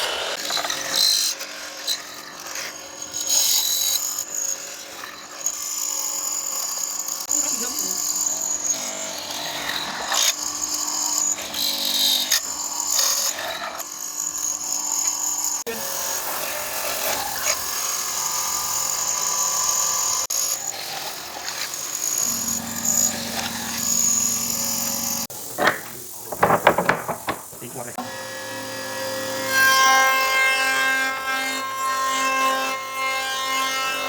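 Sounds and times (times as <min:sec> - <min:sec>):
power tool cutting wood: 0:00.0 - 0:34.0.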